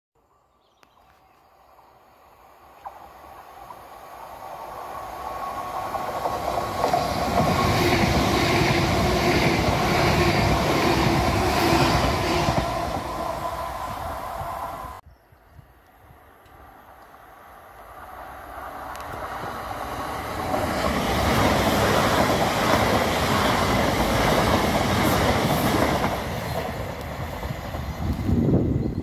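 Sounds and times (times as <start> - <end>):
train passing on rails: 1.6 - 15.0, 15.8 - 29.0.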